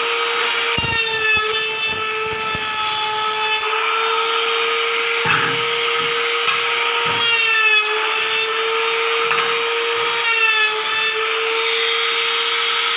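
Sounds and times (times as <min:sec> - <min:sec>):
wood router high-pitched whine: 0:00.0 - 0:12.9.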